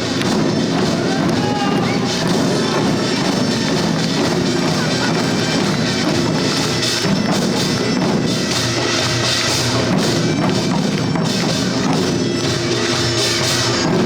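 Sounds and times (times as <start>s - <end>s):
barrel drums beaten: 0.0s - 14.0s
traditional percussion: 0.0s - 14.0s.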